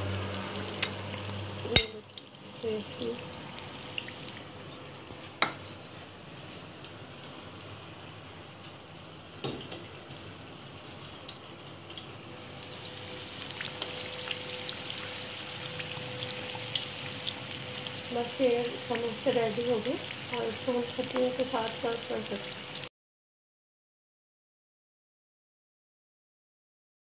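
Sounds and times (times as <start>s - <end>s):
hot oil sizzling and popping: 0.0s - 22.9s.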